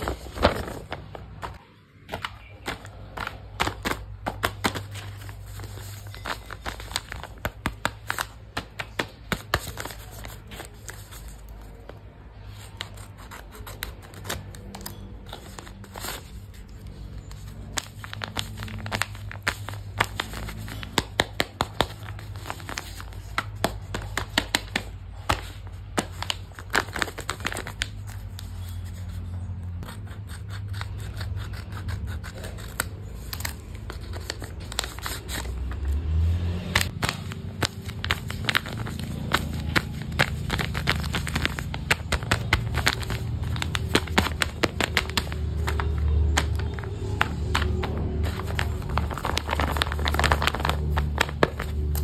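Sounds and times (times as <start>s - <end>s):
paper scraping and crinkling: 0.0s - 52.0s.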